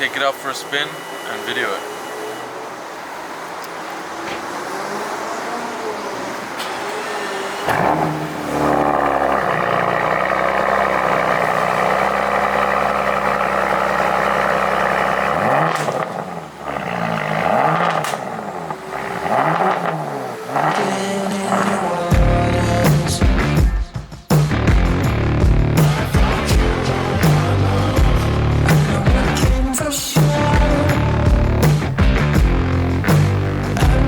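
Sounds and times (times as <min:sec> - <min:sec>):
car engine revving: 0:02.7 - 0:34.0.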